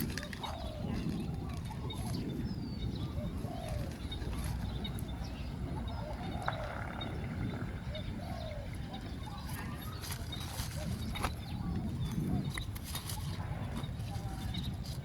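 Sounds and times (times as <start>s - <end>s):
dove cooing: 0.0s - 15.0s
small birds chirping: 0.0s - 15.0s.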